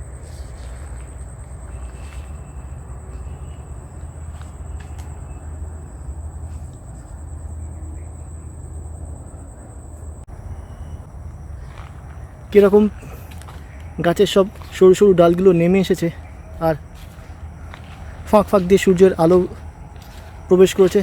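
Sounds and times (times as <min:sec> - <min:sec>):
constant low rumble: 0:00.0 - 0:21.0
high-pitched insect trill: 0:00.0 - 0:21.0.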